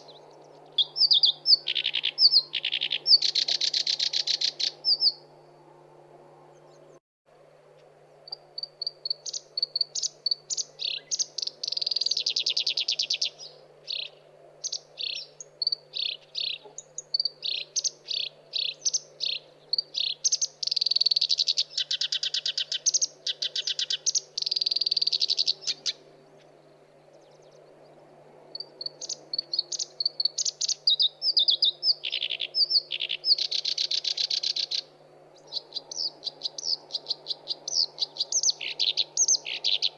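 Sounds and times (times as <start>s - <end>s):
warbler singing buzzy trills: 0.0s - 5.8s, 8.1s - 39.9s.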